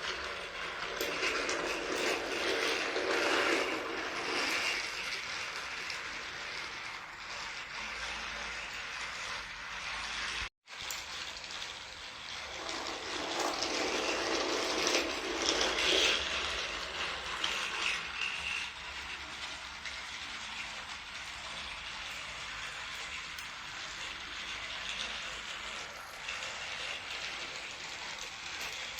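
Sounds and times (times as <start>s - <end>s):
toy train motor whirring: 0.0s - 28.9s.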